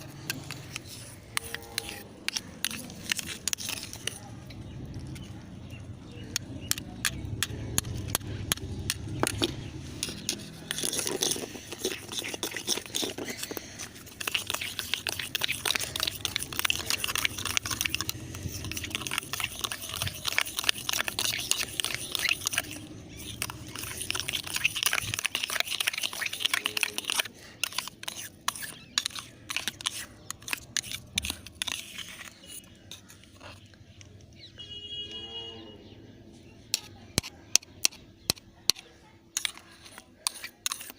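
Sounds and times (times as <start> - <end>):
gritty mixture being stirred: 0.0 - 34.8, 35.8 - 40.9.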